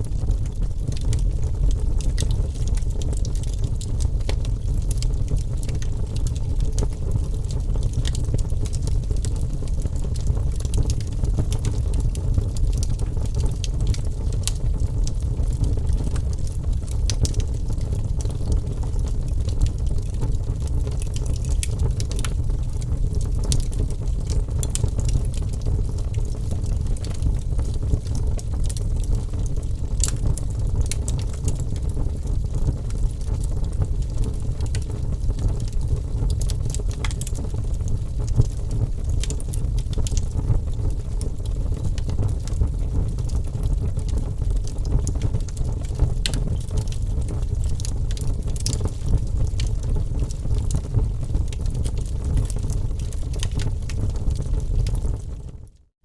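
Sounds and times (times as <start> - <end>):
fire crackles and pops: 0.0 - 55.8
low rumble of flames: 0.0 - 55.9.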